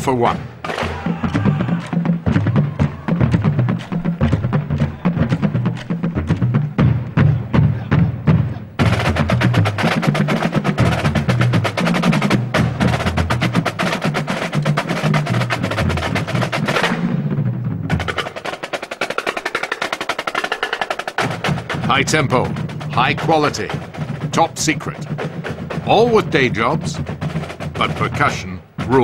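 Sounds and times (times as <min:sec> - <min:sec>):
side drum rolls: 0:00.0 - 0:29.0.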